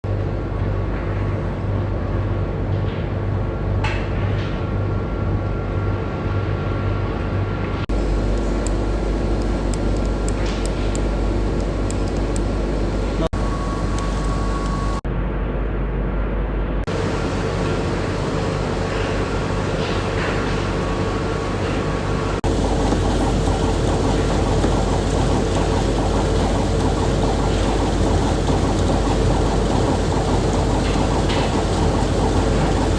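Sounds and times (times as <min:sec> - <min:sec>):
machinery mechanical hum: 0:00.0 - 0:32.9.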